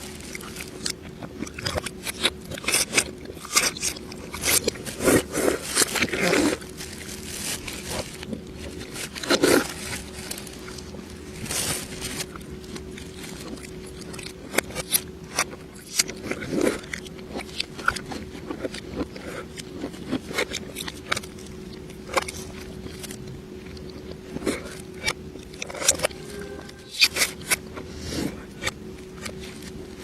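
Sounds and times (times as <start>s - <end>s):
reversed chewing and crunching: 0.0s - 30.0s
steady low hum: 0.0s - 30.0s.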